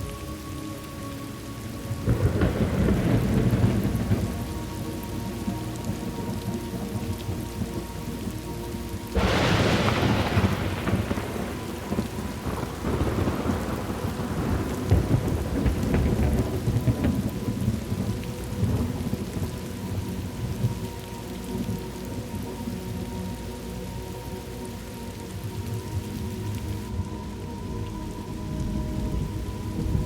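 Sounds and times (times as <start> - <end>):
steady rain: 0.0 - 30.0
thunderclap rumbling: 1.9 - 22.2, 25.4 - 30.0.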